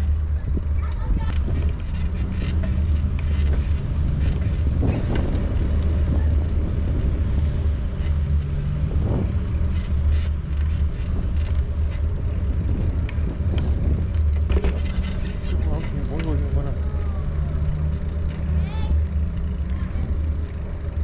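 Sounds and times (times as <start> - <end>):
bicycle rolling on pavement: 0.0 - 21.0
low wind rumble on microphone: 0.0 - 21.0.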